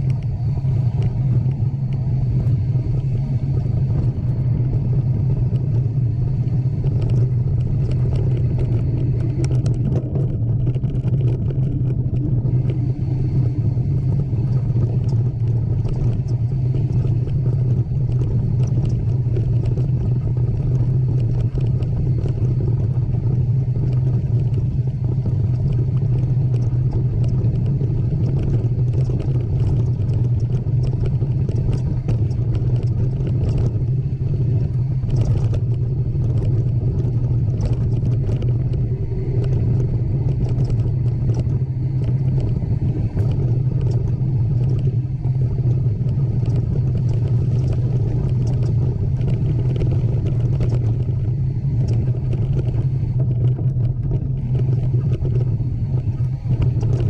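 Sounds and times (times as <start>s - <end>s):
steady low drone: 0.0s - 57.0s
faint ticks: 6.8s - 12.8s, 14.0s - 57.0s.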